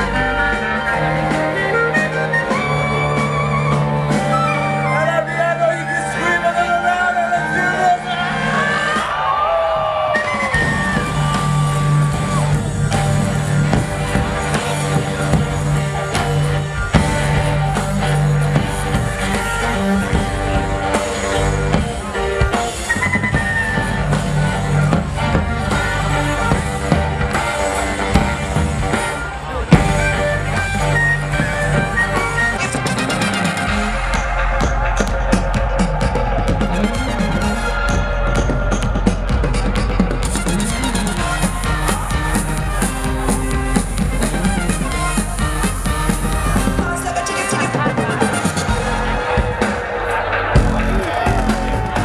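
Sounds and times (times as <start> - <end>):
bass line: 0.0 - 9.3, 10.5 - 52.0
drums: 0.0 - 52.0.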